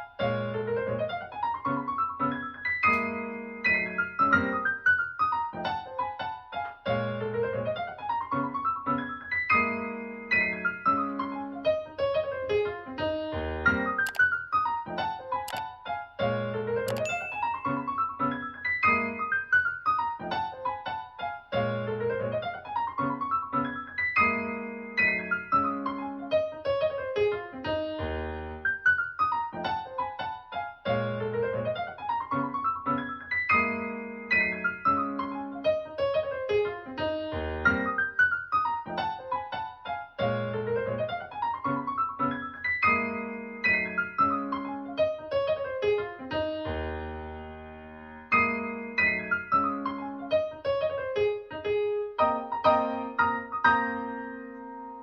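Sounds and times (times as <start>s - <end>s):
solo piano arpeggios: 0.0s - 14.2s, 16.4s - 55.0s.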